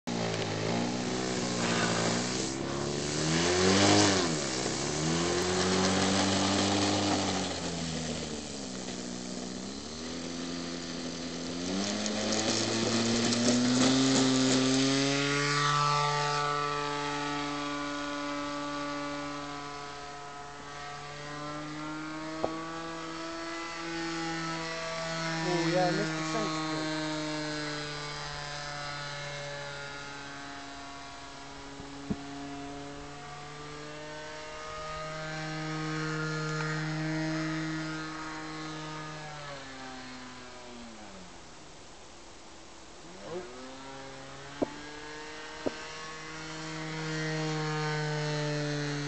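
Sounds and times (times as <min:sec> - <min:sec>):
model plane engine revving: 0:00.1 - 0:41.5, 0:43.0 - 0:49.0.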